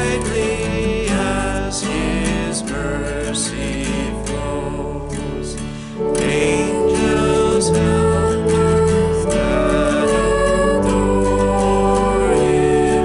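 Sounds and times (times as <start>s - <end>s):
man and woman singing a hymn: 0.0s - 13.0s
strummed acoustic guitar: 0.0s - 13.0s.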